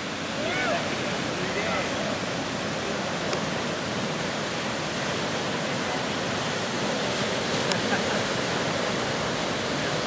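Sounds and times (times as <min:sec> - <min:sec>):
ocean surf rushing: 0:00.0 - 0:10.0.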